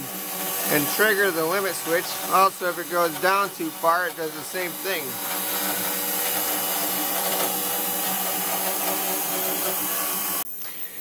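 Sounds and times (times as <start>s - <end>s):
electric motor humming with hiss: 0.0s - 11.0s.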